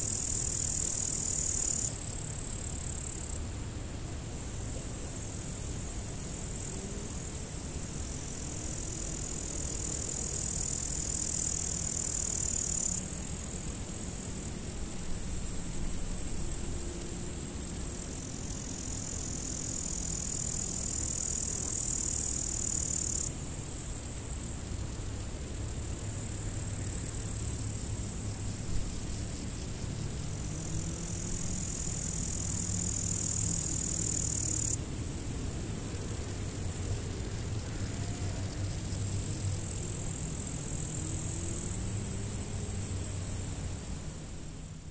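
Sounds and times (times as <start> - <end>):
crickets trilling: 0.0 - 44.9.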